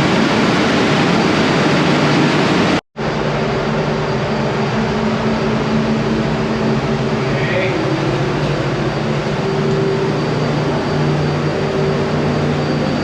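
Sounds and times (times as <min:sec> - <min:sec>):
engine room machinery noise: 0:00.0 - 0:13.0
machinery hum with low drones: 0:00.0 - 0:13.0
rushing noise: 0:00.0 - 0:13.0.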